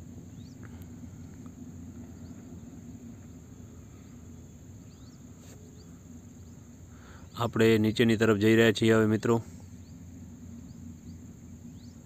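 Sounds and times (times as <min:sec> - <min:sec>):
cable car rumble: 0:00.0 - 0:12.0
insects chirring: 0:00.0 - 0:12.0.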